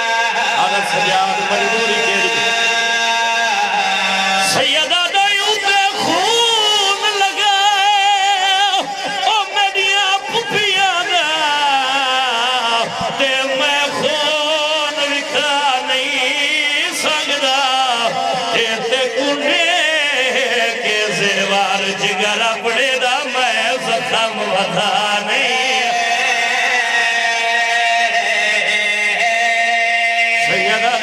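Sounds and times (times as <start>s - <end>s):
man singing a mourning lament: 0.0s - 31.0s.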